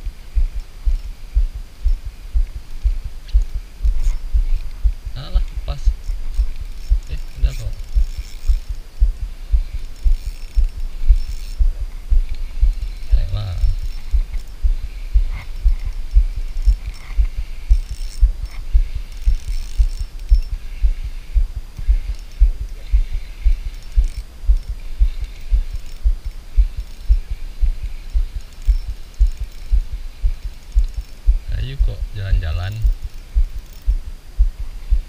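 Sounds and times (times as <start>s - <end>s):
fishing reel cranking: 0.2s - 1.3s, 1.9s - 34.0s.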